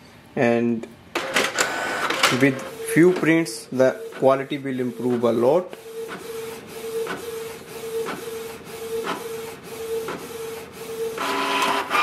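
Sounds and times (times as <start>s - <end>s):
printer motor hum: 1.2s - 12.0s.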